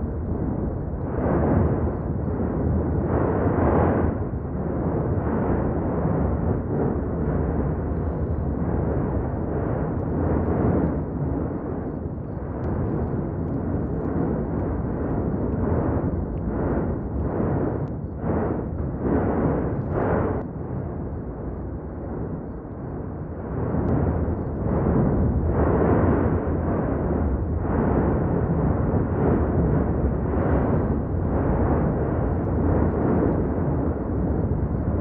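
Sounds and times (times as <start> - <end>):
volcanic vent roaring: 0.0 - 35.0.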